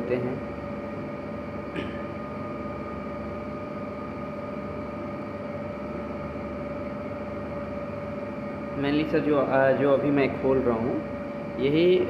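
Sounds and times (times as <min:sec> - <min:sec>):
mechanical hum with high tone: 0:00.0 - 0:12.0.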